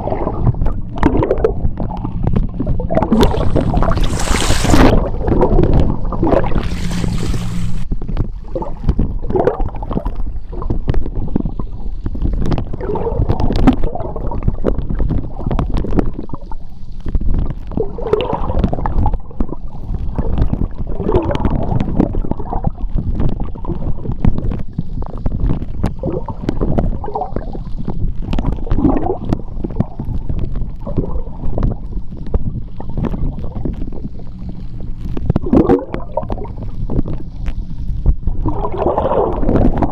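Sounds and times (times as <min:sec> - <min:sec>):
gurgling bubbles: 0:00.0 - 0:07.9, 0:08.5 - 0:16.5, 0:17.7 - 0:39.9
underwater clicks and crackles: 0:00.0 - 0:39.9
underwater rumble of moving water: 0:00.0 - 0:39.9.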